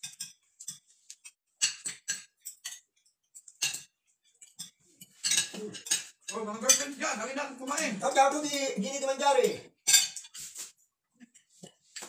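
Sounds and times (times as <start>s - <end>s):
cutlery clinking on plates: 0.0s - 12.0s.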